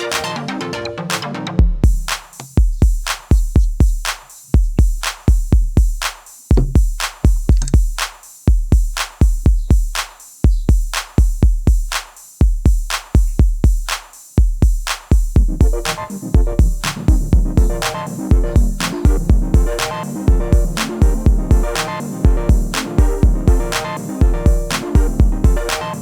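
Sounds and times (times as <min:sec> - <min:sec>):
electronic drum machine beat: 0:00.0 - 0:00.5, 0:01.1 - 0:26.0.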